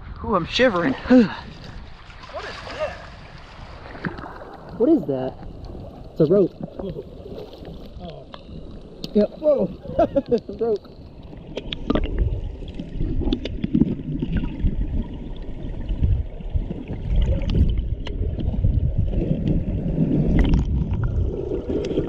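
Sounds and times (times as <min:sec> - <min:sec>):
underwater river current rumble: 0:00.0 - 0:22.0.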